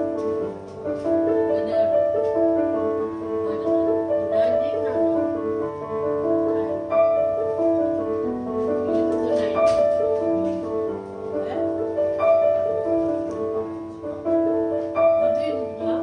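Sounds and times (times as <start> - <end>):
electronic keyboard piano ballad: 0.0 - 16.0.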